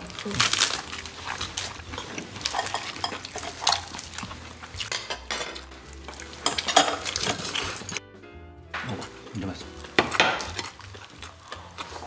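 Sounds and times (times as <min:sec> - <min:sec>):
chopsticks clinking against dishes: 0:00.0 - 0:08.0, 0:08.8 - 0:12.0
crackling stirring noise: 0:00.0 - 0:08.0, 0:08.8 - 0:12.0.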